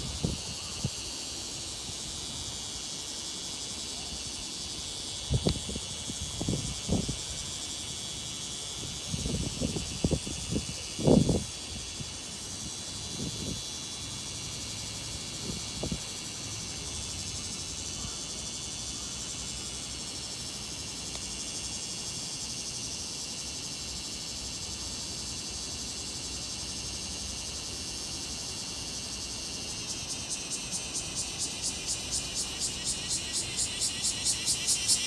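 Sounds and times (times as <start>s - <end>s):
cicada buzzing: 0.0s - 35.0s.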